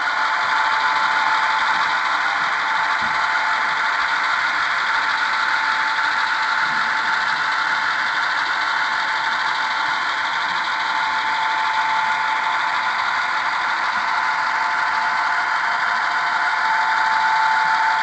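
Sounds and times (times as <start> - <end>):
model train engine drone: 0.0 - 18.0.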